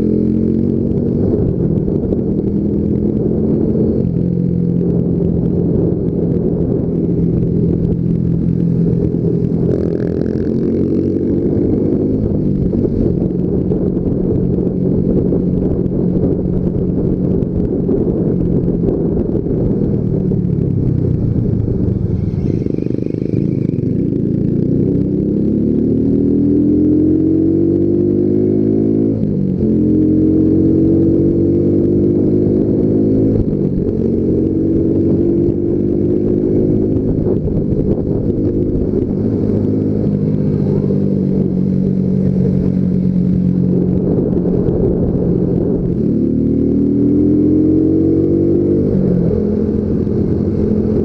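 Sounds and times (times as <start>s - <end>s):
motorcycle engine running: 0.0s - 51.0s
wind rumble on microphone: 0.0s - 51.0s.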